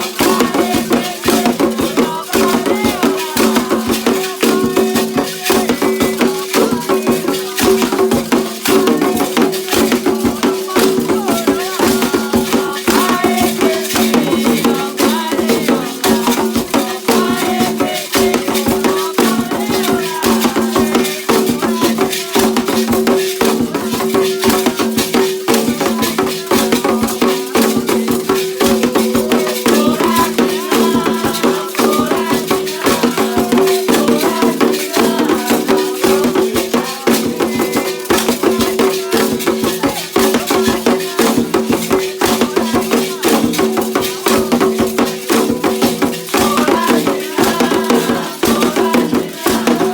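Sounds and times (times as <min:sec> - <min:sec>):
percussion: 0:00.0 - 0:49.9
rattle shaken rhythmically: 0:00.0 - 0:49.9
voices singing: 0:00.0 - 0:49.9.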